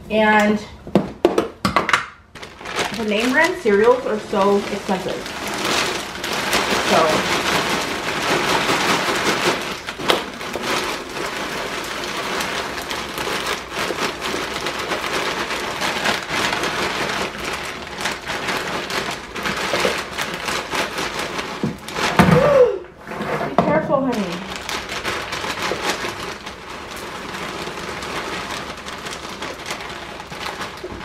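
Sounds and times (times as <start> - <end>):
cereal pouring into plastic container: 2.4 - 23.2, 24.0 - 31.0.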